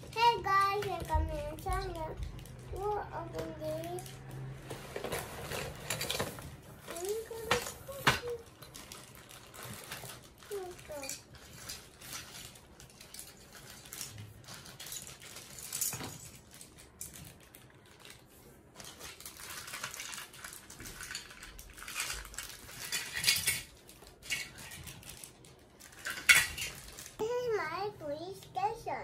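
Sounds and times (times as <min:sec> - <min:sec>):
plastic toy parts rattling: 0:00.0 - 0:27.2
plastic bags crinkling: 0:00.0 - 0:27.5.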